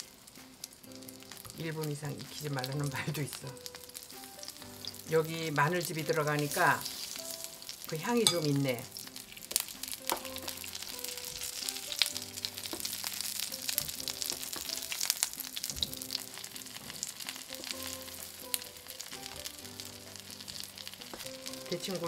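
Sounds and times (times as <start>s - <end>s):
food sizzling in oil: 0.0s - 22.0s
soft background music: 0.0s - 22.0s.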